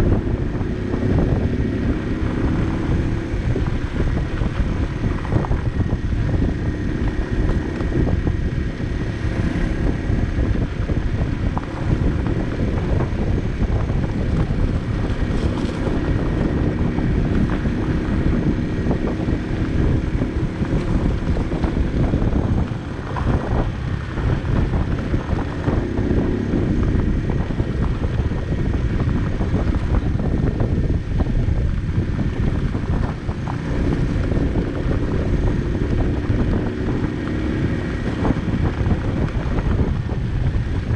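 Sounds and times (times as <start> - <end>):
moped engine running: 0.0 - 40.9
wind buffeting microphone: 0.0 - 40.9.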